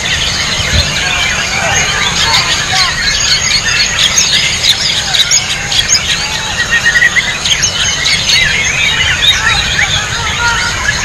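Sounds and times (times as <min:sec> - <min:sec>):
bird singing whistled phrases: 0:00.0 - 0:11.0
chorus of songbirds: 0:00.0 - 0:11.0.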